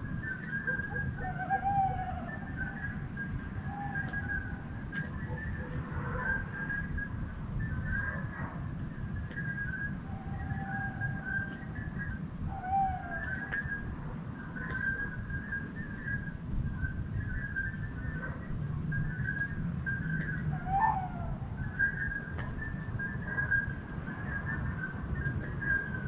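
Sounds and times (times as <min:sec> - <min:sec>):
steady low rumble: 0:00.0 - 0:26.0
short whistled call: 0:00.2 - 0:08.2, 0:09.1 - 0:13.9, 0:14.5 - 0:26.0.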